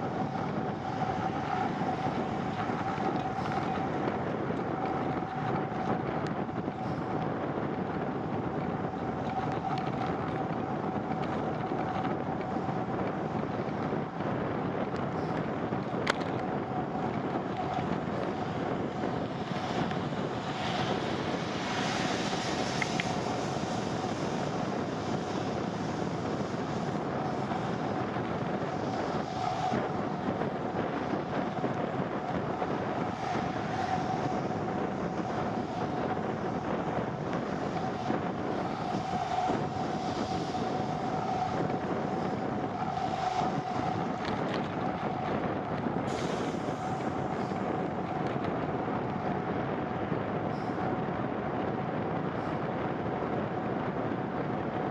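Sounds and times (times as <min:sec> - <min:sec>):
bicycle wind and road noise: 0:00.0 - 0:54.9
wind buffeting microphone: 0:00.0 - 0:54.9.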